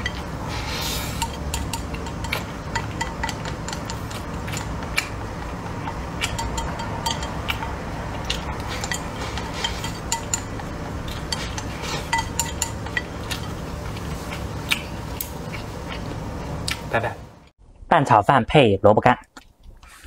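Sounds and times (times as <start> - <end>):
chopsticks scraping ceramic bowl: 0.0 - 16.2.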